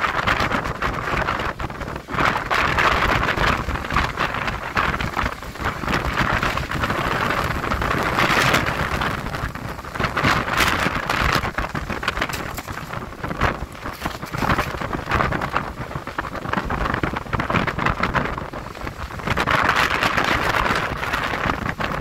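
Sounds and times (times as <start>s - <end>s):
gusting wind buffeting microphone: 0.0s - 22.0s.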